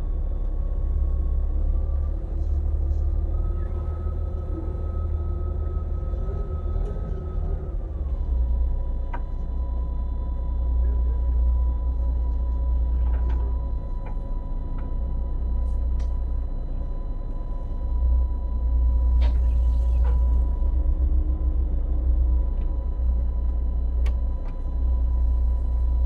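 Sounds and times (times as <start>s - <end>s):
steady whine: 0.0s - 26.0s
boat engine rumbling: 1.0s - 16.0s, 17.0s - 26.0s.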